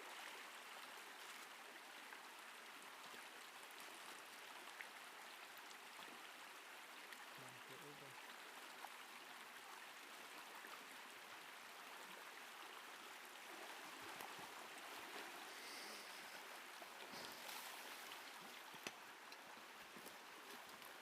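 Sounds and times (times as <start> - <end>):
flowing creek: 0.0 - 21.0.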